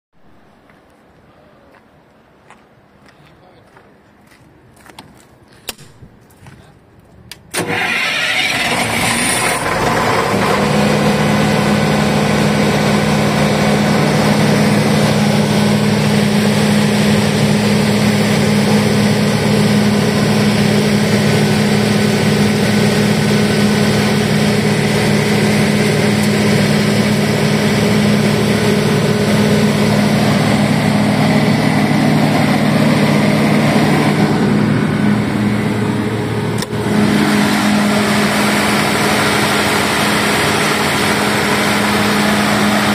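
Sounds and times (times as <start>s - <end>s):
diesel generator running: 7.3s - 42.9s.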